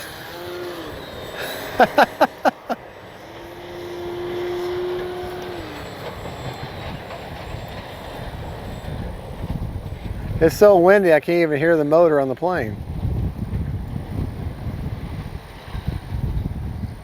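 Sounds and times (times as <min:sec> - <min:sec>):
electric motor and propeller hum: 0:00.0 - 0:11.0, 0:12.7 - 0:17.0
wind buffeting microphone: 0:00.0 - 0:17.0.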